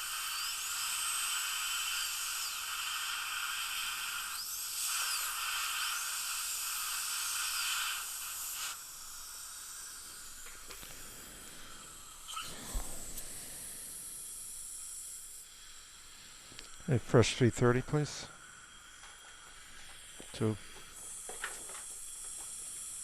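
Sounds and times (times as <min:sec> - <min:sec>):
water spray hiss: 0:00.0 - 0:17.4, 0:18.0 - 0:23.0
dental drill whine: 0:00.0 - 0:23.0.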